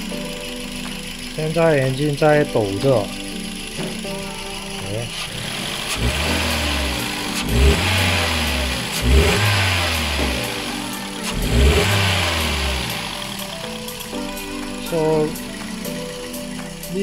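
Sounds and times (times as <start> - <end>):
car engine misfiring and revving: 0.0 - 17.0.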